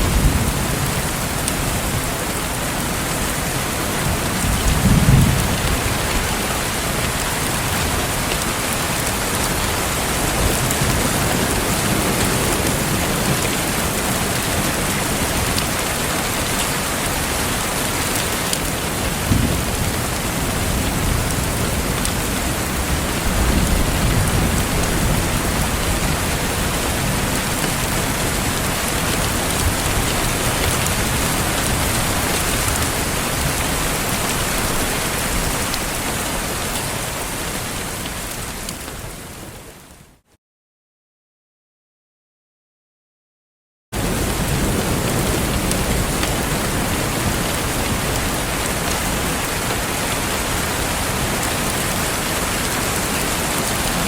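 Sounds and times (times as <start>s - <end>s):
rain on a surface: 0.0s - 40.2s, 44.0s - 54.0s.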